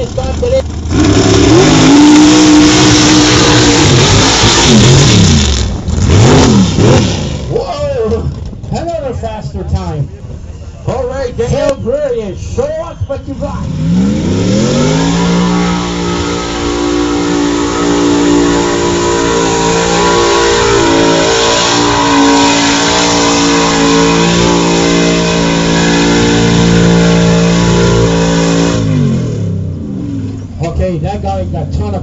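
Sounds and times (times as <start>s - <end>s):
truck engine at high revs: 0.0s - 8.9s, 11.0s - 32.0s.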